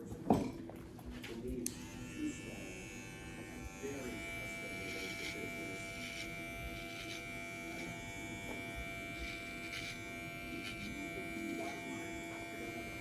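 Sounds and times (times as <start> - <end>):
electric hair clippers buzzing: 1.6 - 13.0.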